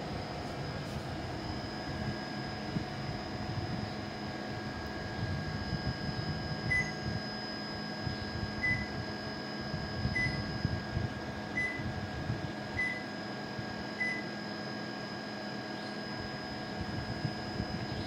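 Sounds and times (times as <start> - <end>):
air conditioner beeps: 0.0 - 18.0
air conditioner hum and airflow: 0.0 - 18.0.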